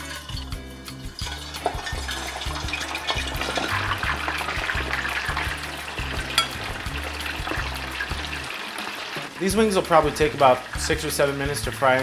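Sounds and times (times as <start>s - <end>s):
oil bubbling and sizzling: 0.0s - 12.0s.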